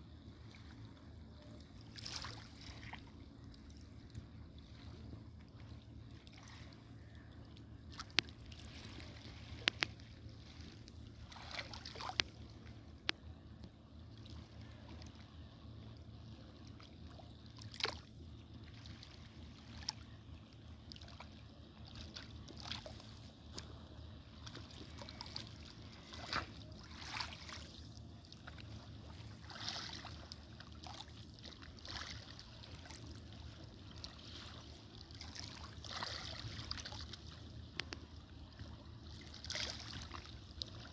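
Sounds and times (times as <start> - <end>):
steady low rumble: 0.0 - 40.9
water splashing and trickling: 0.2 - 13.2, 13.9 - 40.9.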